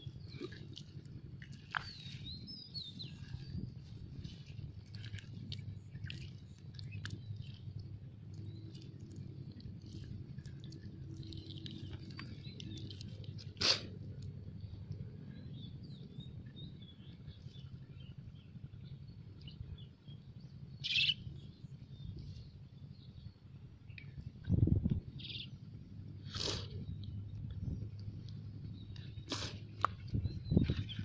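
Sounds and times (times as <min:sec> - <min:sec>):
small birds chirping: 0:00.0 - 0:31.0
steady low rumble: 0:00.0 - 0:31.0.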